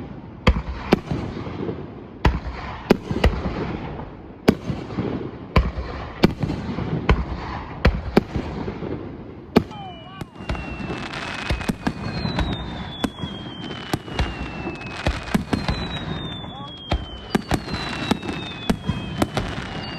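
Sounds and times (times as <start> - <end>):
fireworks bangs: 0.0 - 19.9.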